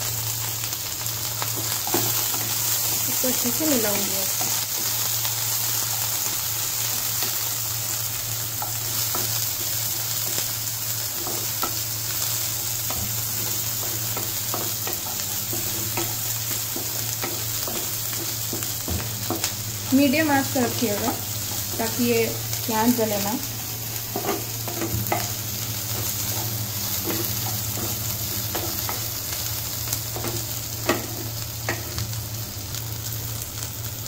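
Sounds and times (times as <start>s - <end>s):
onions sizzling in hot oil: 0.0s - 34.0s.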